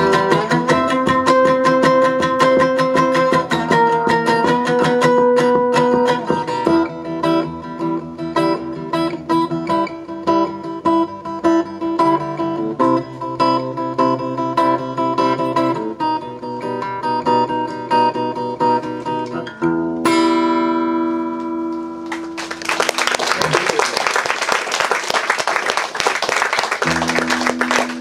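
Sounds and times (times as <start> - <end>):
guitar picking chords: 0.0 - 22.4, 26.8 - 28.0.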